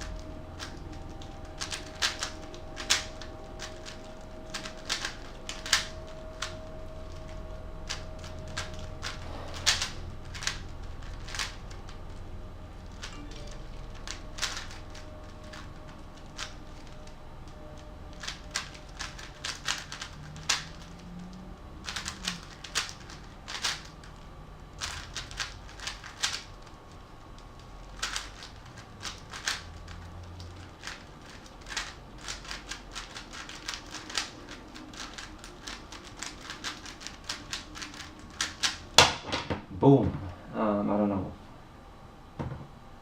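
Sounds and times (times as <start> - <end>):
puzzle cube plastic clicks: 0.0 - 7.3, 7.9 - 12.0, 12.8 - 24.2, 24.8 - 26.6, 27.9 - 38.9.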